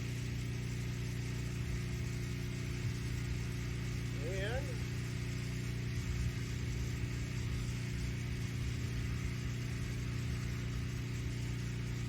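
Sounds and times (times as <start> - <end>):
pressure washer engine humming: 0.0 - 12.0.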